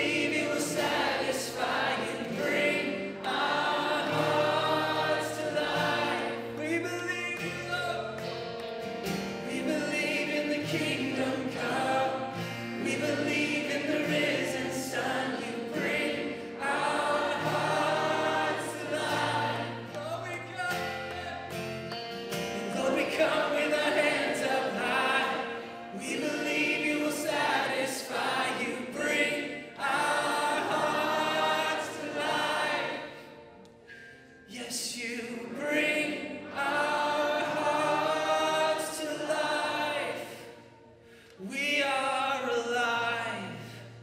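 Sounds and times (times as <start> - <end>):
congregation singing worship song: 0.0 - 44.0.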